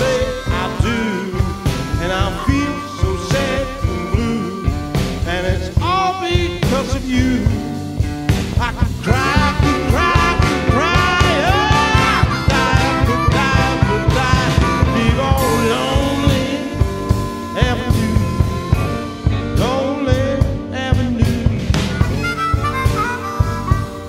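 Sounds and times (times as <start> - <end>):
bending lead guitar line: 0.0 - 24.0
blues band playing: 0.0 - 24.0
drums steady beat: 0.0 - 24.0.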